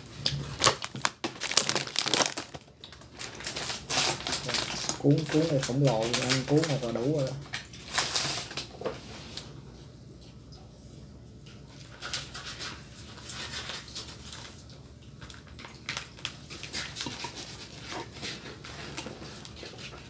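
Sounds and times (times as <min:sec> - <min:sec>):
rice paper rustling: 0:00.0 - 0:09.6, 0:11.7 - 0:20.0.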